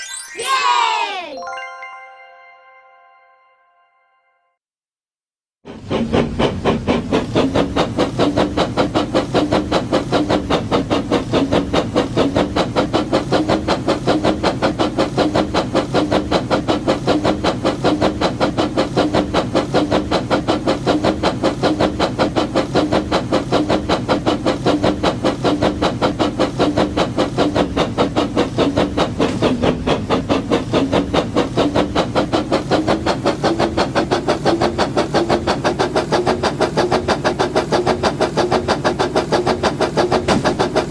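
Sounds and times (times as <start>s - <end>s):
toy train chugging: 5.7s - 40.9s.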